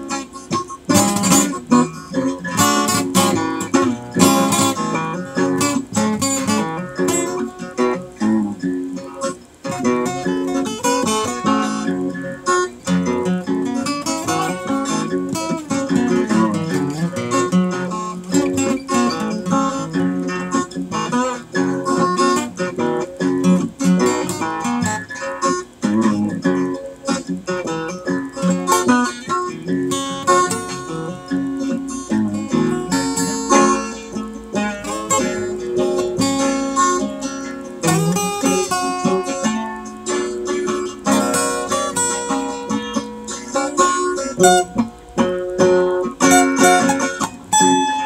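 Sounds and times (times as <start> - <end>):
acoustic guitar playing: 0.0 - 48.0.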